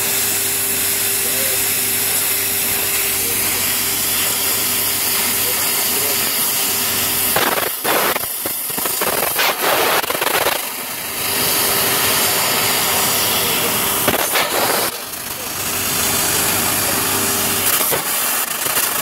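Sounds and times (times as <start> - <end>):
machine hum: 0.0 - 18.6
laser cutter gas jet hiss: 0.0 - 19.0.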